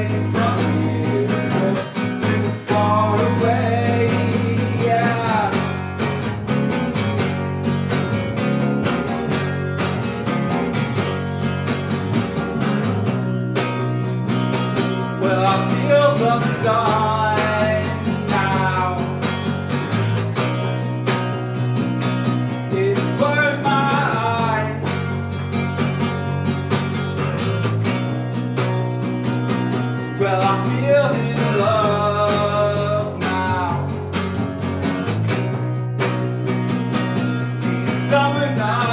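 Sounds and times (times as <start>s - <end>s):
acoustic guitar strumming: 0.0s - 38.9s
electric bass: 0.0s - 38.9s.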